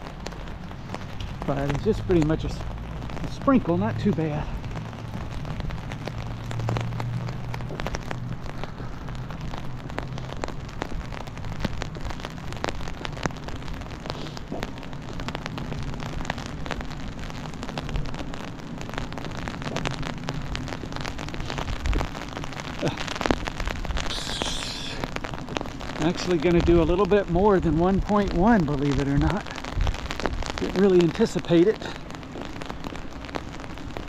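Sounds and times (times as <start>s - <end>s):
rain on an umbrella: 0.0s - 34.0s.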